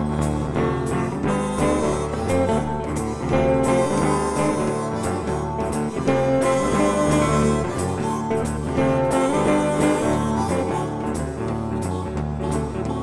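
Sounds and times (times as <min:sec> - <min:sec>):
guitar instrumental with steady beat: 0:00.0 - 0:13.0.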